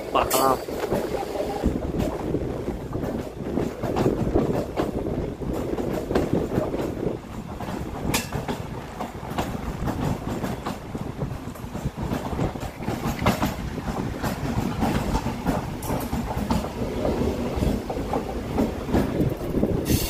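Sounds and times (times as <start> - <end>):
train rumbling: 0.0 - 20.0
wheels clattering over rail joints: 0.0 - 20.0.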